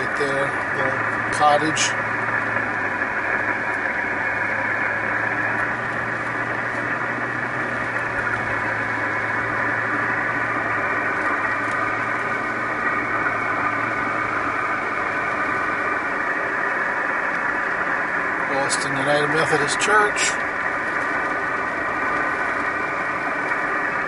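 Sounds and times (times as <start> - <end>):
car interior engine and road noise: 0.0 - 24.0.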